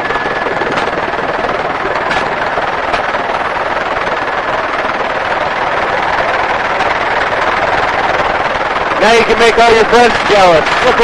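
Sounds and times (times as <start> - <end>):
helicopter rushing noise: 0.0 - 11.0.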